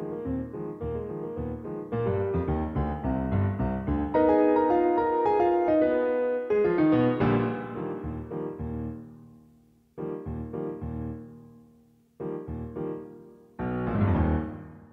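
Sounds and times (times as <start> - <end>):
solo piano chords and melody: 0.0 - 14.9.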